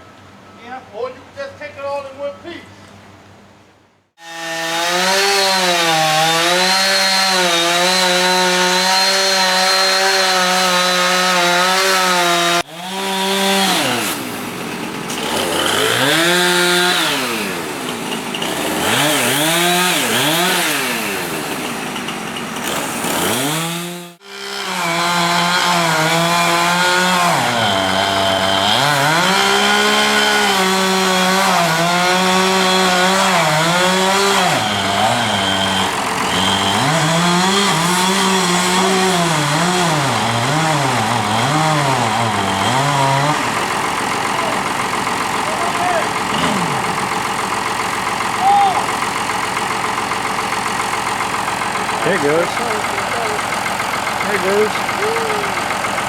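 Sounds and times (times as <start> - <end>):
chainsaw cutting wood: 4.2 - 56.0.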